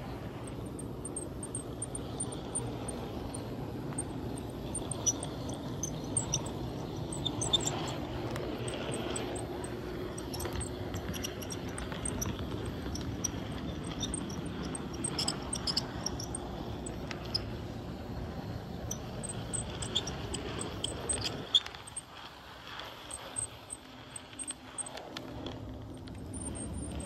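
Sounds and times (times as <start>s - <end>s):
model train wheels and motor rumbling: 0.0s - 27.0s
wheels clicking on rails: 0.0s - 27.0s.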